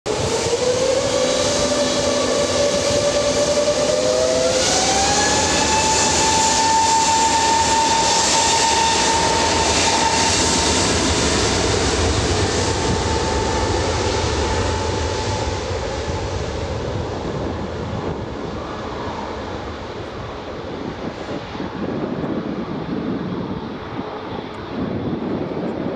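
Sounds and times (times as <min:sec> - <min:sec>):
jet engines whining: 0:00.1 - 0:25.9
rushing jet noise: 0:00.1 - 0:25.9.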